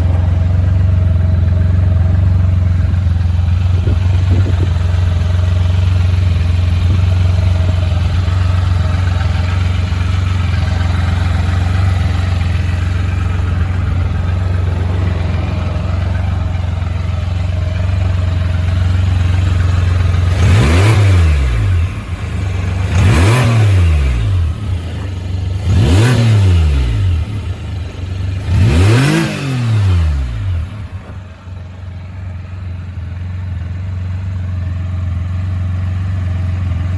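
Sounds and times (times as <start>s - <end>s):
engine revving: 0.0s - 31.3s
motorcycle engine idling: 0.0s - 36.9s.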